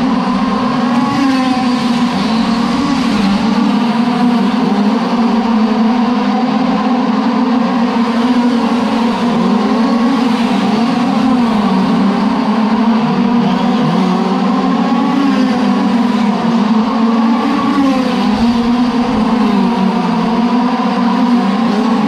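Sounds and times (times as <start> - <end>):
rc car engines racing: 0.0 - 22.0.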